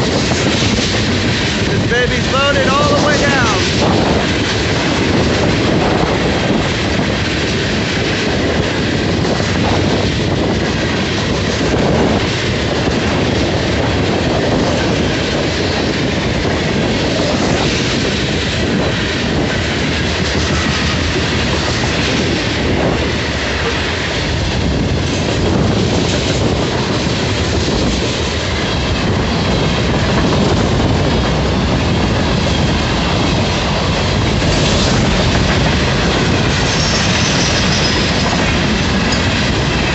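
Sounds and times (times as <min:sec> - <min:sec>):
rhythmic clickety-clack: 0:00.0 - 0:39.9
train wheels rumbling on rails: 0:00.0 - 0:39.9.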